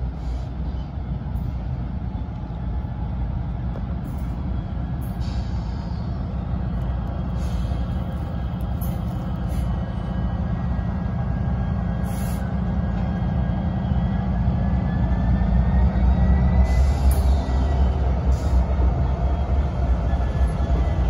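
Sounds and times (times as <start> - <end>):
diesel locomotive rumbling: 0.0 - 21.0.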